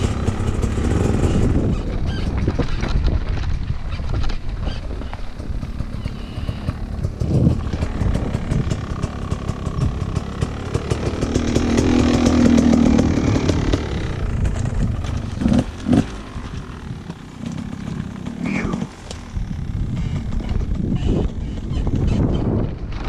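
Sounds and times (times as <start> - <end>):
motocross bike engine passing: 0.0 - 2.9, 4.7 - 23.0.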